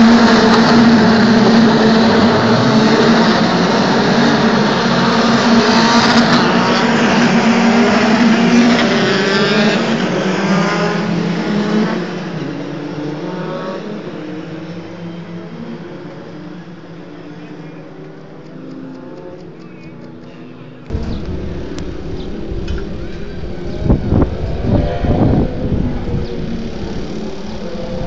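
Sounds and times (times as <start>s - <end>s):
racing car engines revving: 0.0s - 20.2s, 20.8s - 28.0s.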